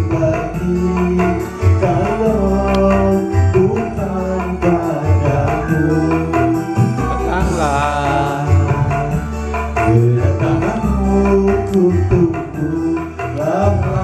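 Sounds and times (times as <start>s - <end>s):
backing track with beat: 0.0s - 14.0s
man singing into microphone: 0.0s - 14.0s.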